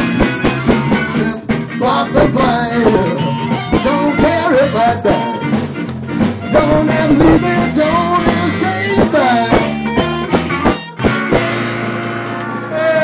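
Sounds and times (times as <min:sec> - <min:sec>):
rock and roll band playing: 0:00.0 - 0:13.0.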